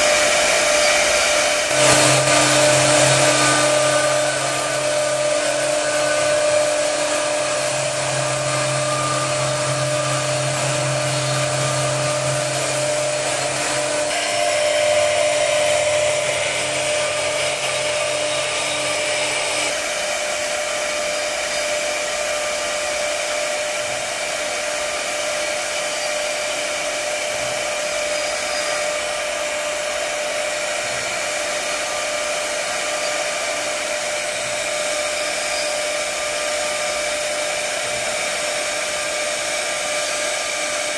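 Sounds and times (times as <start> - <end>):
bit milling wood: 0.0 - 40.9
router spindle tone: 0.0 - 40.9.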